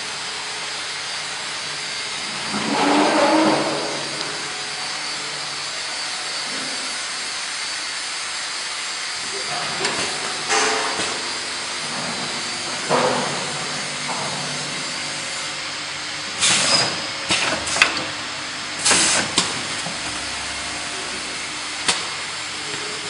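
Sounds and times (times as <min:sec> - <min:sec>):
packing machine mechanical hiss: 0:00.8 - 0:23.0.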